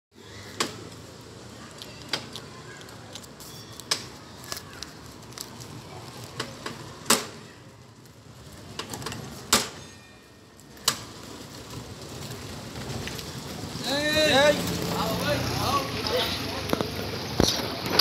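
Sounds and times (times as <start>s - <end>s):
bicycle rolling rumble: 0.2s - 9.5s, 10.3s - 18.0s.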